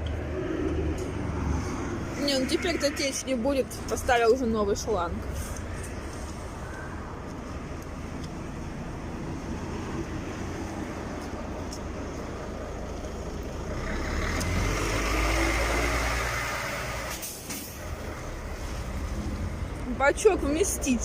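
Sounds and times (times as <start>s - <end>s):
heavy vehicle passing: 0.0s - 21.0s
low traffic rumble: 0.0s - 21.0s.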